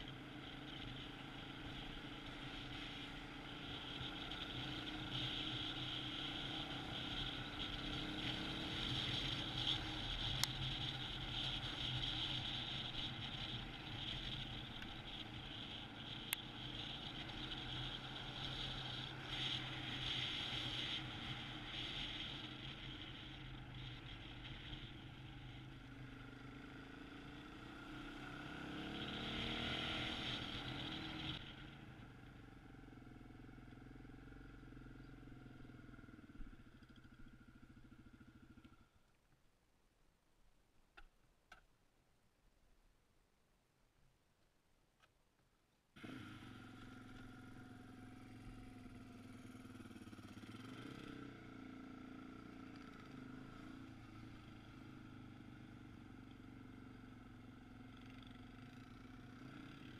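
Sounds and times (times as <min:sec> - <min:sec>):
motorcycle engine running: 0:00.0 - 0:39.0, 0:46.0 - 0:59.9.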